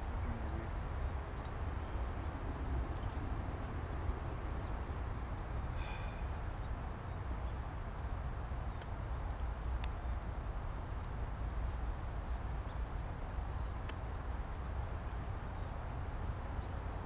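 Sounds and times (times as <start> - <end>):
birds chirping: 0.0 - 17.0
wind rumble on microphone: 0.0 - 17.0.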